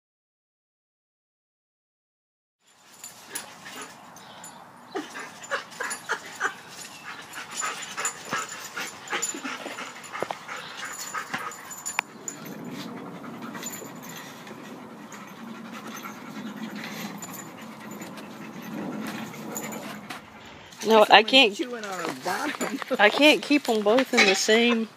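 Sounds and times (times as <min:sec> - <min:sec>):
dogs scuffling: 0:02.8 - 0:24.8
dogs panting: 0:02.8 - 0:24.9.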